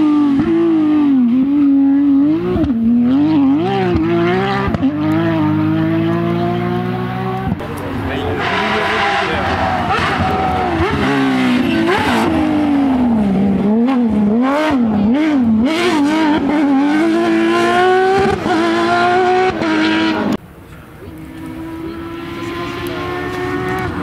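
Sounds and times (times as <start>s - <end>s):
rally car engine revving: 0.0s - 20.4s, 21.0s - 24.0s.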